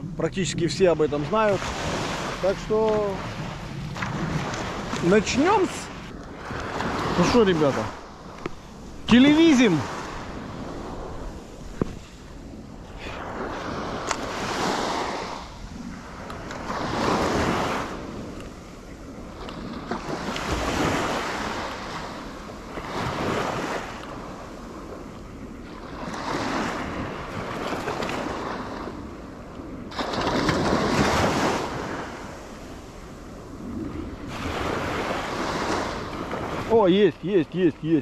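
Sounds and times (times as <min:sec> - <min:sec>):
sea waves washing in: 0:00.0 - 0:38.0
wind buffeting microphone: 0:00.0 - 0:38.0.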